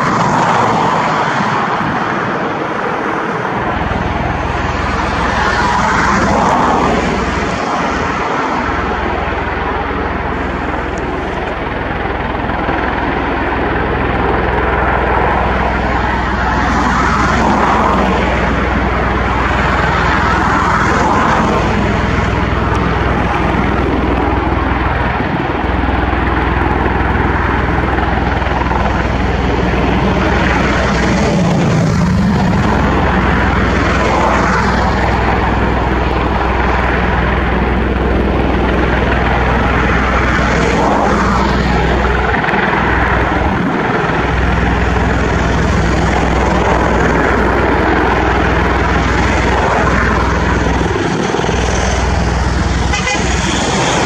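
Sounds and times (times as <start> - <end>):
aircraft rotor and engine noise: 0.0 - 54.0.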